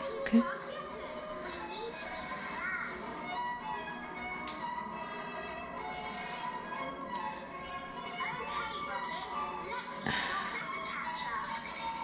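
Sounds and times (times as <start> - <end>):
orchestral music on television: 0.0 - 12.0.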